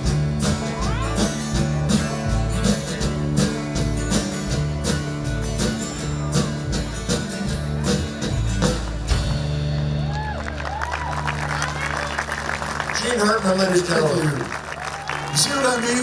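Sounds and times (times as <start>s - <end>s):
country band playing: 0.0s - 16.0s.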